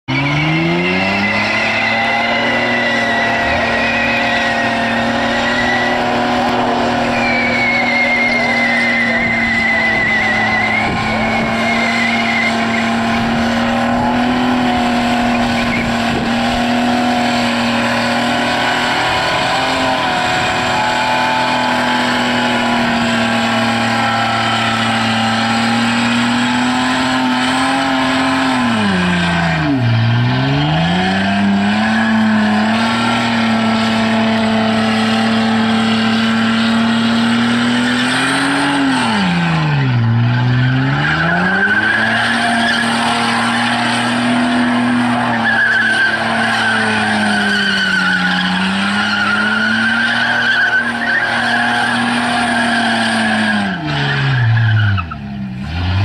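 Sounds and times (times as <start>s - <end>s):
car engine revving high: 0.0s - 56.0s
tyre squeal: 0.1s - 55.3s.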